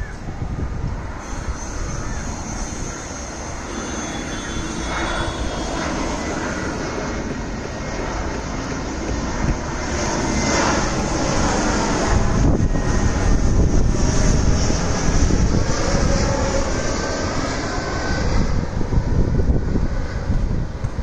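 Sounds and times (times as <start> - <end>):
faint whine: 0.0 - 18.8
jet airliner flying overhead: 0.0 - 21.0.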